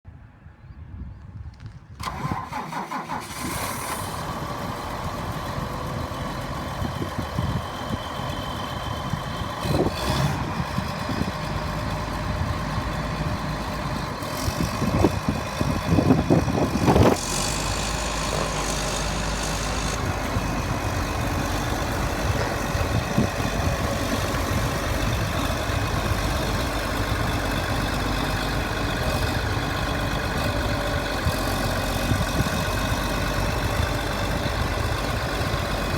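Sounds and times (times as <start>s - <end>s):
tractor diesel engine idling: 2.0s - 35.9s.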